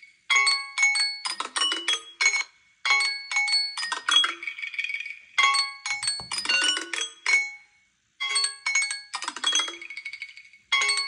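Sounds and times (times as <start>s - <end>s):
phone timer chime melody: 0.0s - 4.6s, 5.4s - 11.0s.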